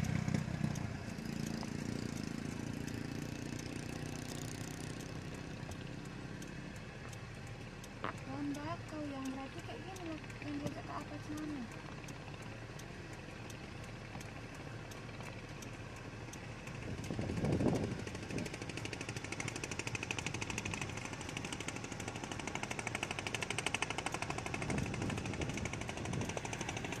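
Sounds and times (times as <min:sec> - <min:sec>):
small engine chugging: 0:00.0 - 0:27.0.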